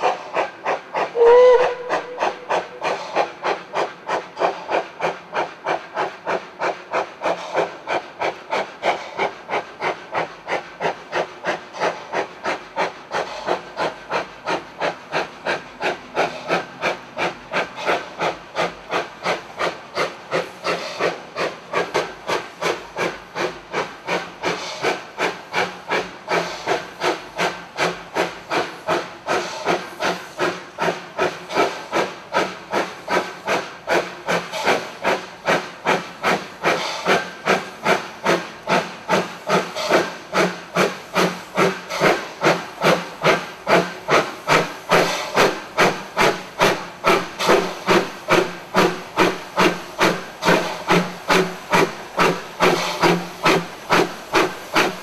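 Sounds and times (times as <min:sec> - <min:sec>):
steam locomotive exhaust chuffs: 0:00.0 - 0:55.0.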